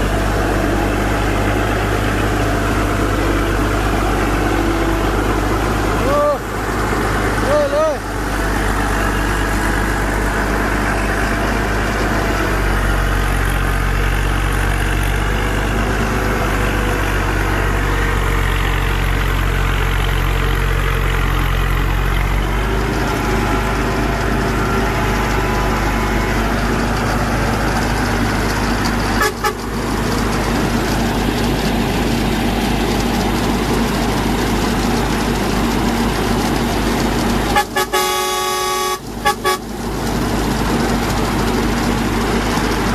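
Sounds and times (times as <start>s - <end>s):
farm machine engine running: 0.0s - 42.9s.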